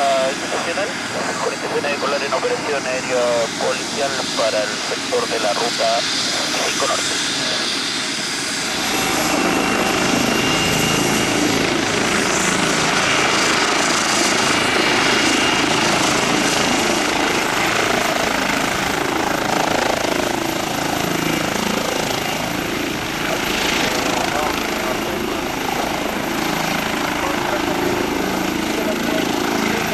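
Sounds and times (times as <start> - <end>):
helicopter rotor and engine noise: 0.0 - 29.9
high turbine whine: 0.0 - 29.9.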